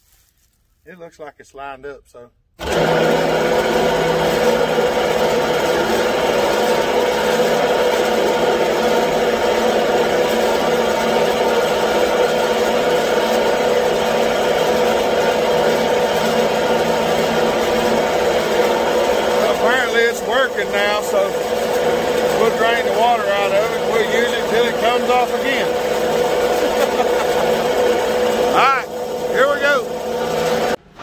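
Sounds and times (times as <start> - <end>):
air compressor humming: 2.6 - 31.0.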